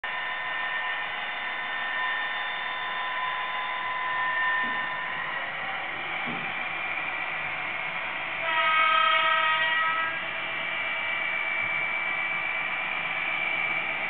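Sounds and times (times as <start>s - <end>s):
model train electric whirr: 0.1s - 14.0s.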